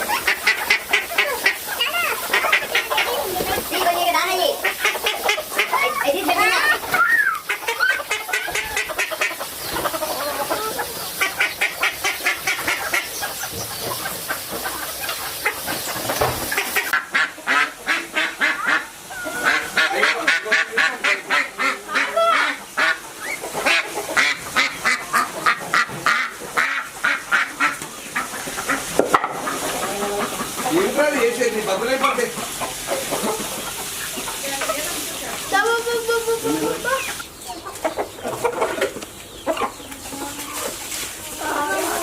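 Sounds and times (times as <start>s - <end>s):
waterfowl honking: 0.0s - 42.0s.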